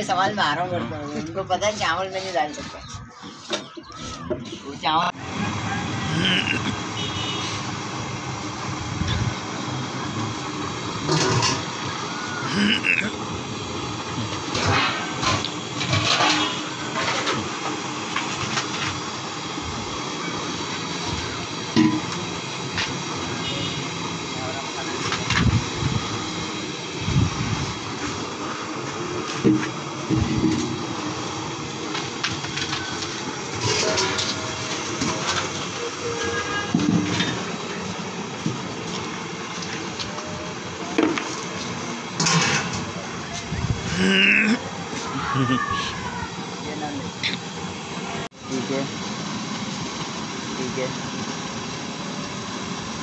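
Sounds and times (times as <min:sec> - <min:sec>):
gas burner hissing: 0:00.0 - 0:53.0.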